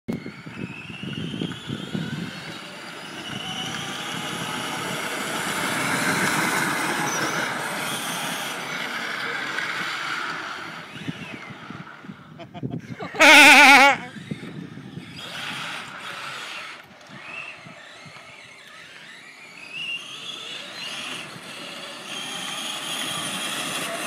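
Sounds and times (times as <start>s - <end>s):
plastic wheels rolling on asphalt: 0.1s - 12.3s, 14.0s - 24.0s
electric motor whine: 0.1s - 12.4s, 13.8s - 24.0s.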